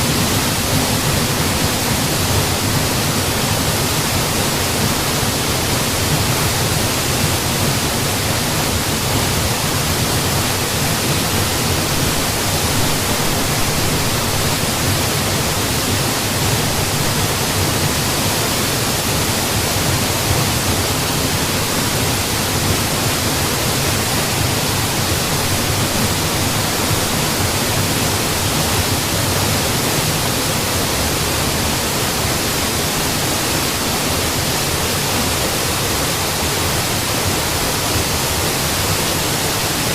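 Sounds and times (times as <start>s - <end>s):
waterfall rushing roar: 0.0s - 39.9s.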